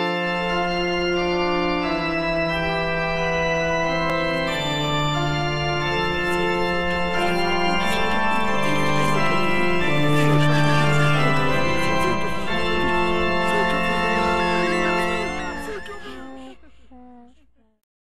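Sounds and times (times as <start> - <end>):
sustained organ chords: 0.0 - 17.2.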